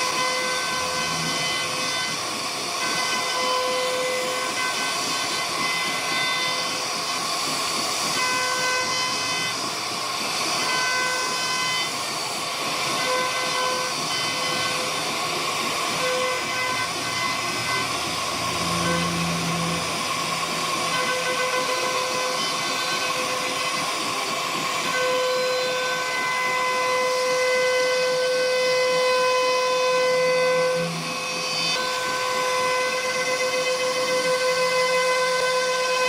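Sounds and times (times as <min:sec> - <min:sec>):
router spindle whining: 0:00.0 - 0:36.0.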